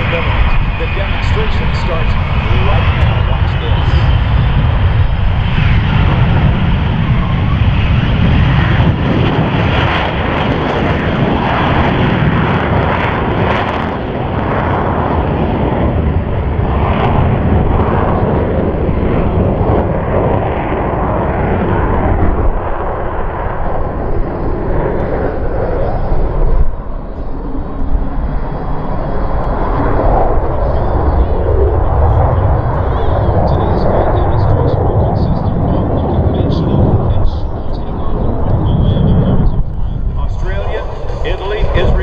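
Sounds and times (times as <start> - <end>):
jet engine roaring at takeoff: 0.0 - 42.0.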